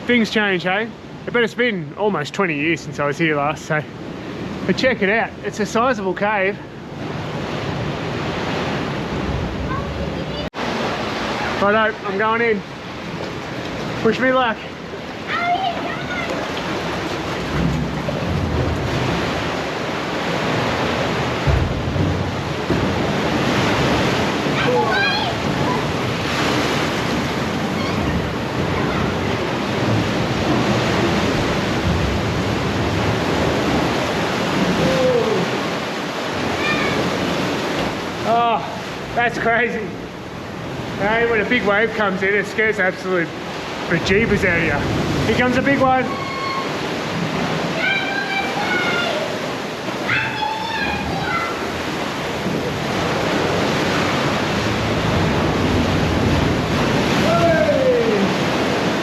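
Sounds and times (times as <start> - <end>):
waves surging through sea cave: 0.0 - 59.0.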